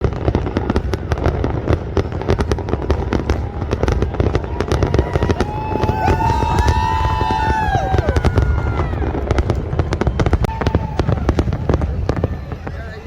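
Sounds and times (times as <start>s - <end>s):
fireworks cracks and bangs: 0.0s - 13.0s
fireworks whistling: 0.0s - 13.0s.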